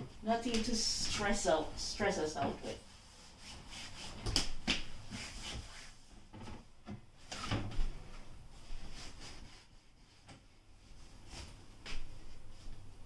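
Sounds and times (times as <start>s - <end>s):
cloth rubbing on wooden doors: 0.6s - 13.0s.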